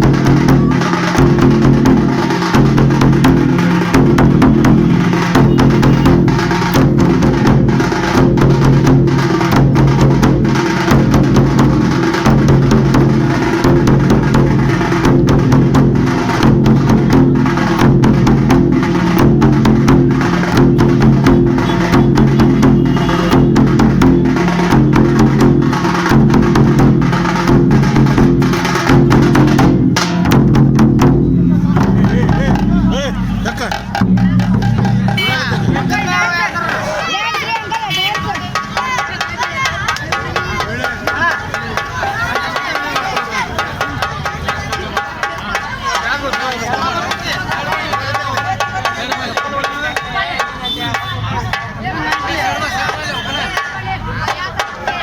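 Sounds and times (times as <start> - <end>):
frame drums beaten fast: 0.0 - 55.0.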